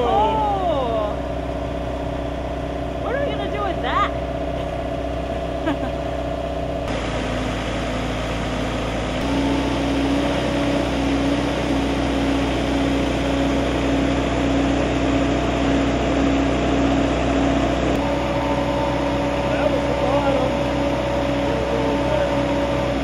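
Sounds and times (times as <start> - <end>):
drill rig engine running: 0.0 - 23.0.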